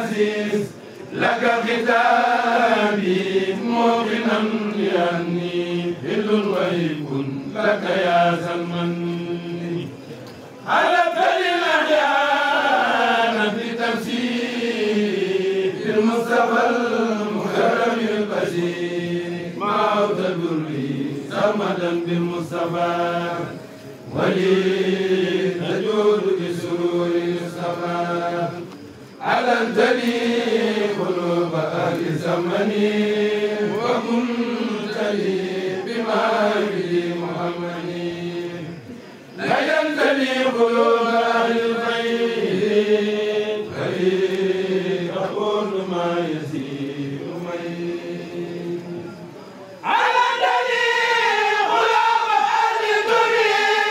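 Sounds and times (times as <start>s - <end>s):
men chanting in unison: 0.0s - 28.6s, 29.2s - 53.9s.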